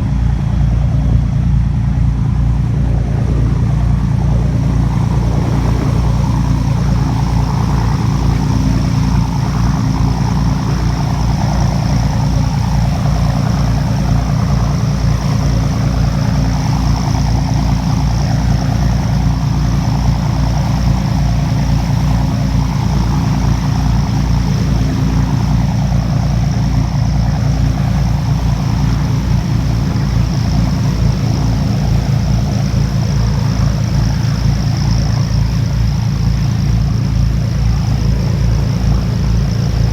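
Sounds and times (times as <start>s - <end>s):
boat engine throbbing: 0.0s - 39.9s
faint high whine: 0.0s - 39.9s.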